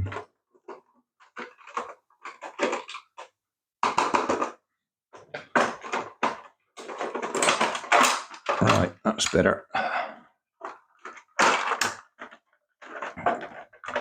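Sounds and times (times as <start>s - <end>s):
plastic toy parts scraping and clattering: 0.0s - 9.4s, 10.6s - 14.0s.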